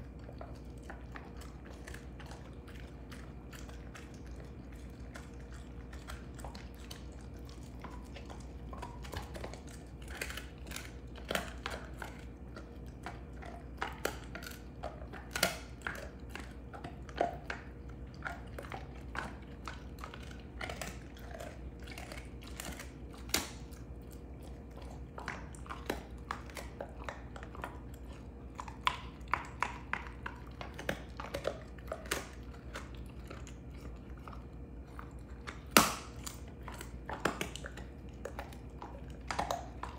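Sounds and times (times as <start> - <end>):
dog chewing a bone: 0.0 - 39.9.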